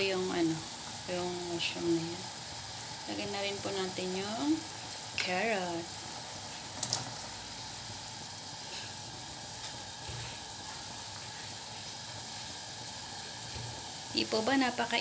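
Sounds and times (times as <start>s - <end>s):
water boiling in a pot: 0.0s - 15.0s.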